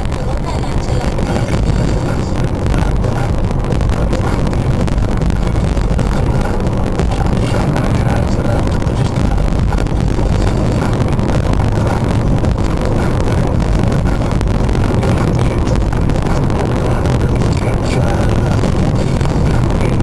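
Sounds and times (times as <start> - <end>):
car engine and tyre drone: 0.0 - 20.0.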